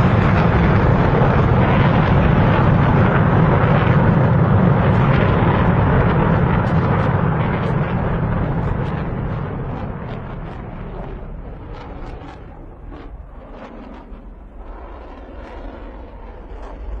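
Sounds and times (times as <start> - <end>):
heavy rumble of aeroplane crash: 0.0 - 17.0.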